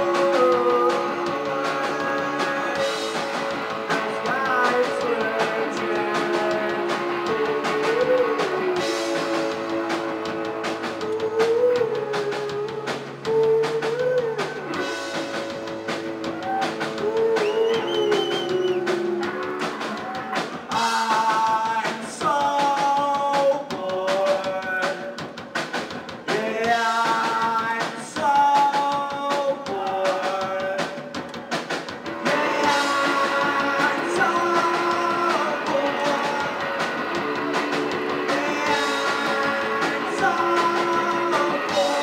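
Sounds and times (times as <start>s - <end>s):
man singing into a microphone: 0.0s - 10.3s, 10.9s - 15.1s, 16.9s - 19.4s, 20.2s - 25.2s, 26.3s - 31.3s, 32.2s - 36.9s, 38.0s - 42.0s
drum kit: 0.0s - 42.0s
electric guitar: 0.0s - 42.0s.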